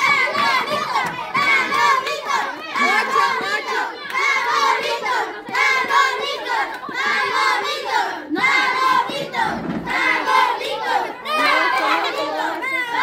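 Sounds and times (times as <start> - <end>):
children shouting and cheering: 0.0 - 13.0.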